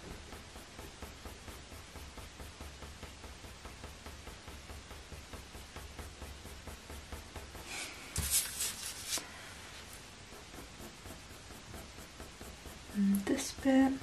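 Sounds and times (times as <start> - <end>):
coloured pencil scratching on paper: 0.1 - 14.0.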